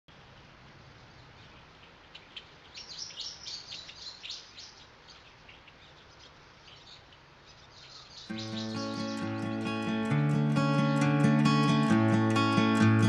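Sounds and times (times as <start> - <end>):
small birds chirping: 0.2 - 12.7.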